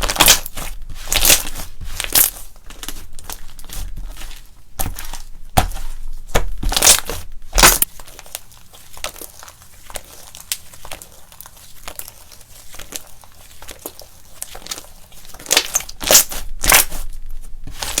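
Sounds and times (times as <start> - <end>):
slime squishing and crackling: 0.0 - 18.0.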